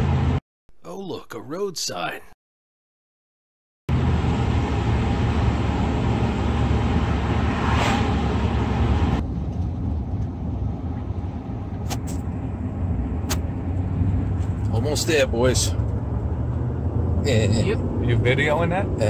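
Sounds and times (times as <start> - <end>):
truck engine and tyre rumble: 0.0 - 0.4, 3.9 - 19.0.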